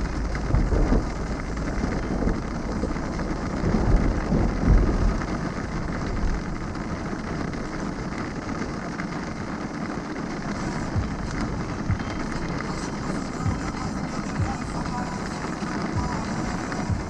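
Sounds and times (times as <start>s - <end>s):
heavy rain on car: 0.0s - 17.0s
low rumble: 0.0s - 17.0s
tyres on wet road: 0.0s - 17.0s.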